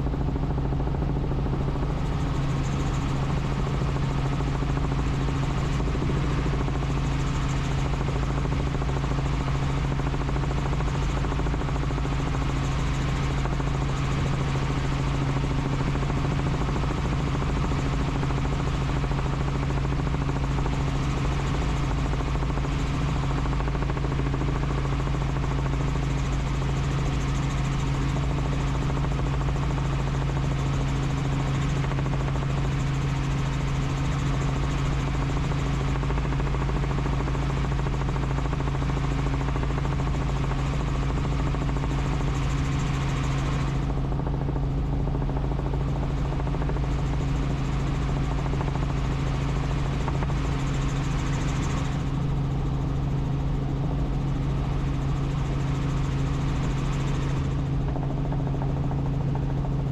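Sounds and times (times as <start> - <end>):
helicopter rotor and turbine drone: 0.0 - 59.9.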